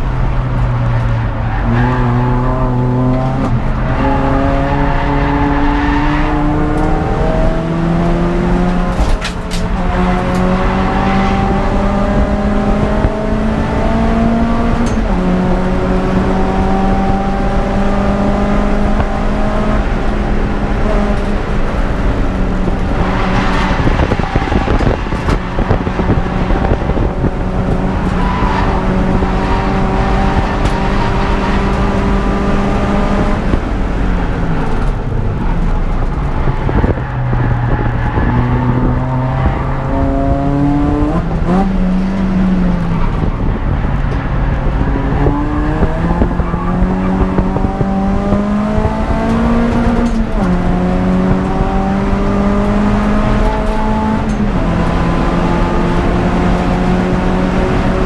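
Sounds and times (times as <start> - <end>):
car engine revving hard: 1.5 - 34.9, 36.4 - 58.0.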